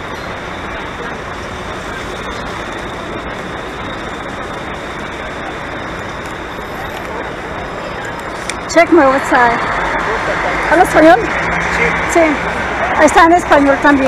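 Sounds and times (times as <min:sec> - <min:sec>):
busy street traffic: 0:00.0 - 0:14.0.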